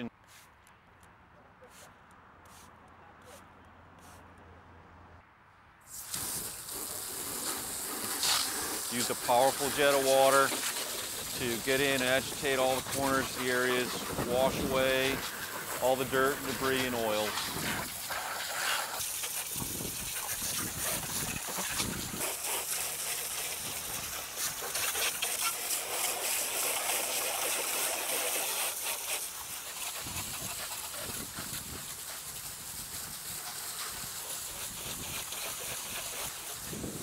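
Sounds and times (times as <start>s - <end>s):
hose spray hissing and splattering: 5.9s - 37.0s.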